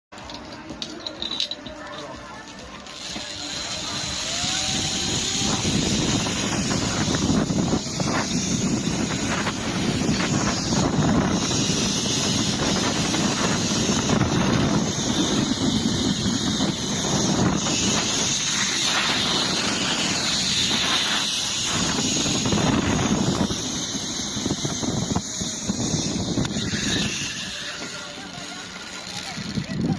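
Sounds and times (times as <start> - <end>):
zipline pulleys whining: 0.2 - 29.9
wind on microphone: 3.4 - 29.9.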